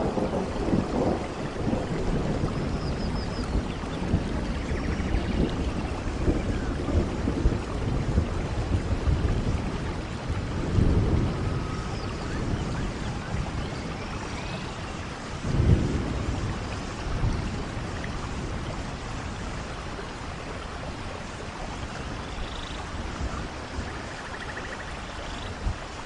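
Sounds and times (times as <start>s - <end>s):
rain falling on leaves: 0.0s - 26.0s.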